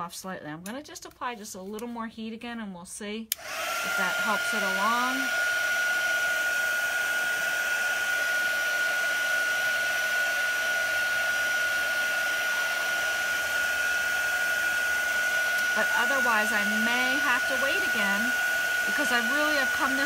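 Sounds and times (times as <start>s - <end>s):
heat tool blowing air with high whine: 3.4s - 20.0s.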